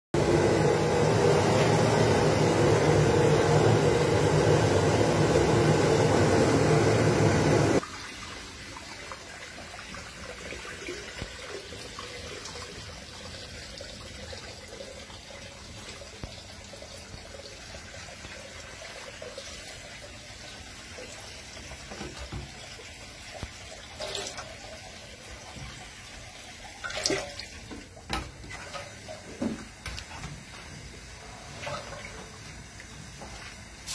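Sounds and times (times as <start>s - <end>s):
water boiling in a pot: 0.2s - 33.9s.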